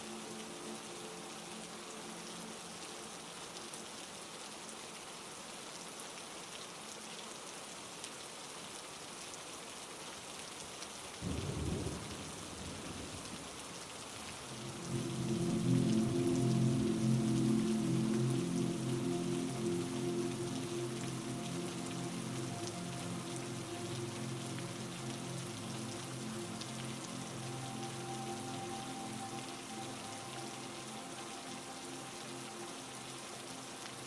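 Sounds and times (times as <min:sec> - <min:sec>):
heavy rain: 0:00.0 - 0:34.0.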